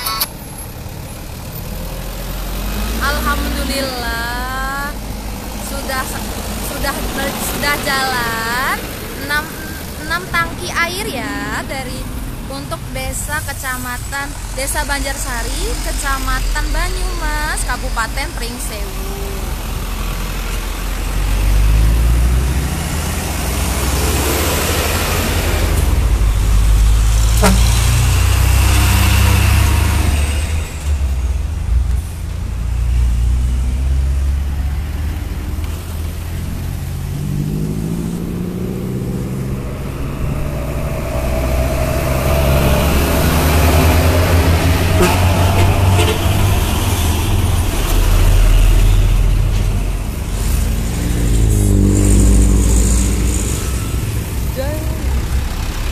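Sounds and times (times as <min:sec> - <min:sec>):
engine accelerating away: 0:00.0 - 0:55.9
trucks and cars driving past: 0:00.0 - 0:55.9.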